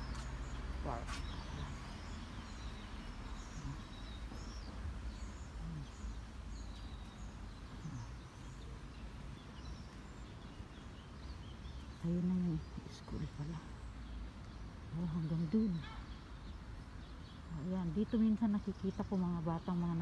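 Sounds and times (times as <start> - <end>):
low outdoor rumble: 0.0 - 20.0
small birds chirping: 0.0 - 20.0.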